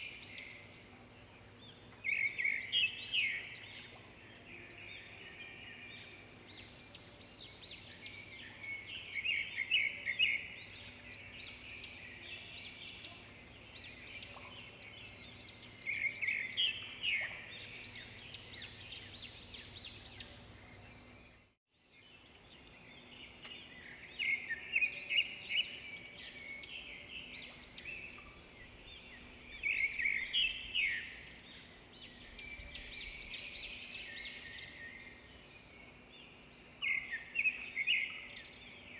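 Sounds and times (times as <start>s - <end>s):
faint background hiss: 0.0s - 38.9s
songbirds singing: 0.0s - 38.9s.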